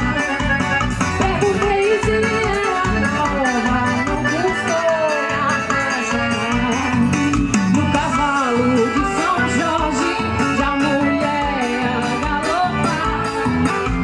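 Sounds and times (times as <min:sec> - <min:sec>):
live band dance music: 0:00.0 - 0:14.0.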